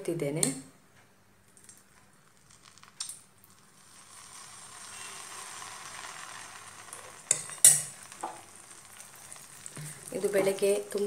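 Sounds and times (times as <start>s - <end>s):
batter sizzling in hot oil: 2.1s - 11.0s.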